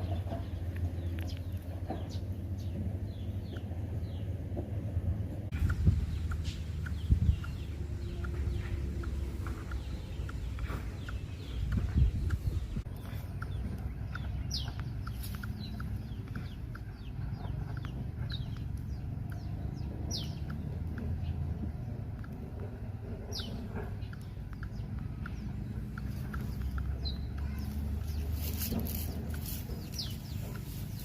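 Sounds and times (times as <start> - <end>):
bird chirps: 0.0 - 4.4, 5.5 - 31.0
steady low rumble: 0.0 - 31.0.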